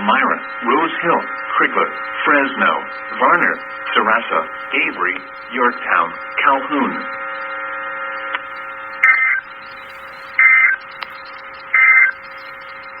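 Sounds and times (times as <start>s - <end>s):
steady electronic hum: 0.0s - 13.0s
warbling digital data tones: 0.0s - 13.0s.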